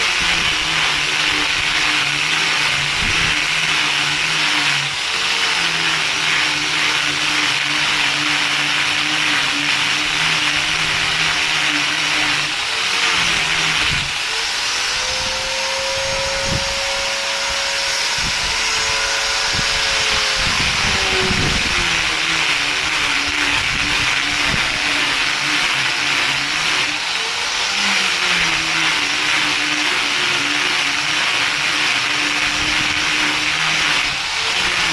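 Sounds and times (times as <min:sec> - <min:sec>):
machine hissing whir and hum: 0:00.0 - 0:34.9.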